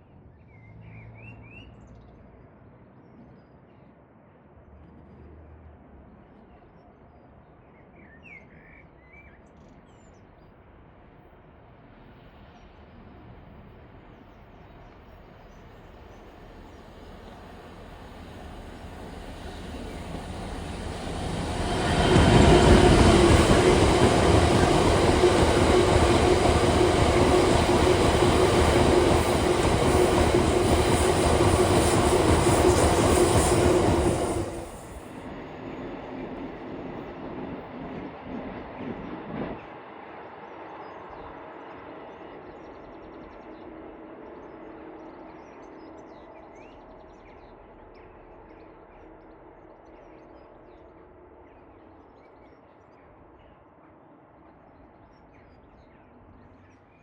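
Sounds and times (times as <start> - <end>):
train passing at speed: 10.5 - 57.0.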